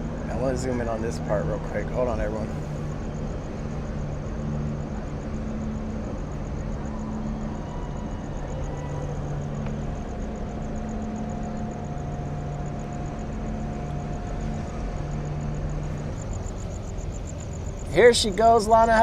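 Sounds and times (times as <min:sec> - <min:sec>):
engine rumble and hum: 0:00.0 - 0:19.0
faint high-pitched pulsing: 0:00.0 - 0:19.0
thin steady tone: 0:00.0 - 0:19.0.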